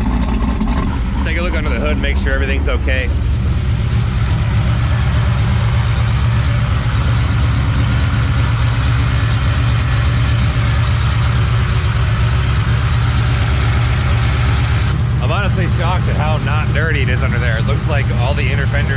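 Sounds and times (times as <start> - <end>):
big engine idling with deep rumble: 0.0 - 18.9.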